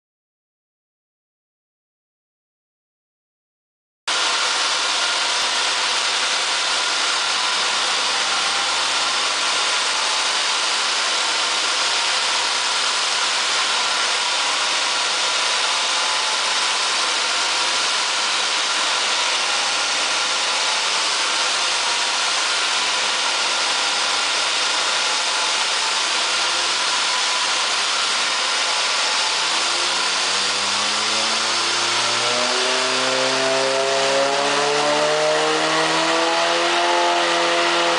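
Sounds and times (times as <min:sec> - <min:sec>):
car engine running on dyno: 0:04.1 - 0:37.9.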